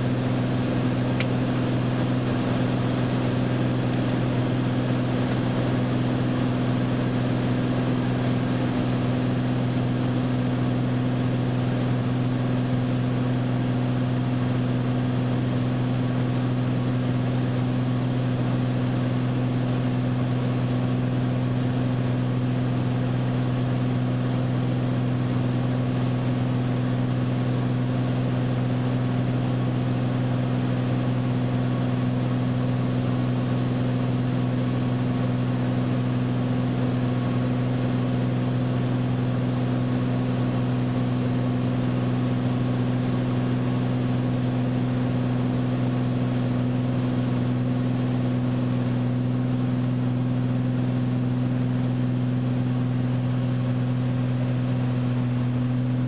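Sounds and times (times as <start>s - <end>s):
propeller airplane engine drone: 0.0s - 56.0s.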